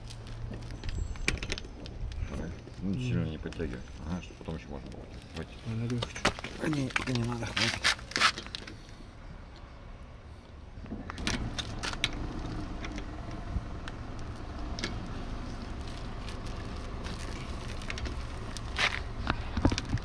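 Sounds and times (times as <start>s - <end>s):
low vehicle rumble: 0.0s - 7.4s, 8.5s - 20.0s.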